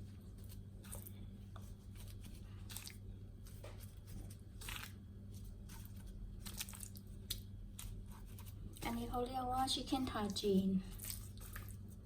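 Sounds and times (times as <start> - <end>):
low electrical hum: 0.0 - 12.0
hands squelching raw chicken: 0.3 - 9.0, 10.2 - 12.0.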